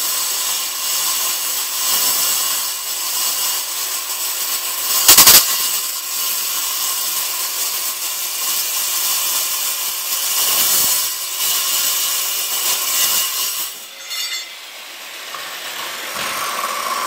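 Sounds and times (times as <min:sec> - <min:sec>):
circular saw cutting steel: 0:00.0 - 0:17.0.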